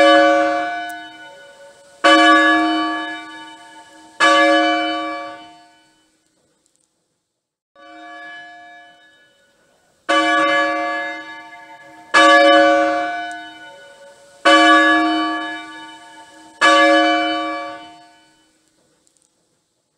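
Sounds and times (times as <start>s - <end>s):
church bell ringing: 0.0s - 6.1s, 7.8s - 18.6s.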